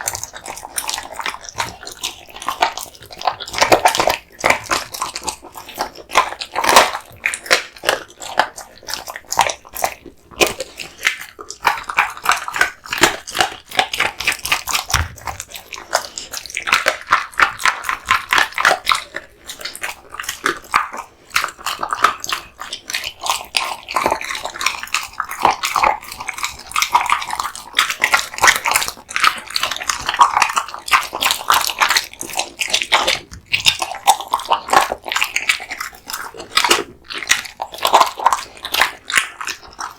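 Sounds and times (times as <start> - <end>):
dog chewing meat and bones: 0.0 - 39.9.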